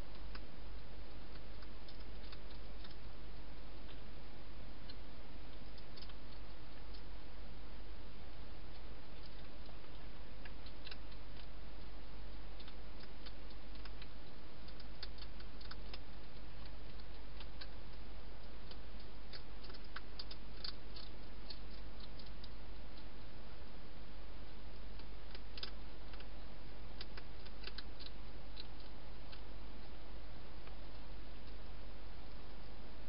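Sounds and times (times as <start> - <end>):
hedgehog crunching food: 0.0 - 32.8.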